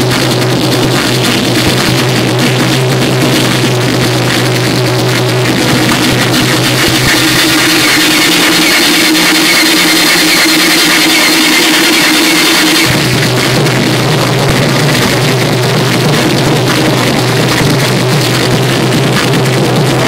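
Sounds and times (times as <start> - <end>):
distorted electronic noise: 0.0 - 20.0
droning tones: 0.0 - 20.0
low bass tone: 0.0 - 20.0.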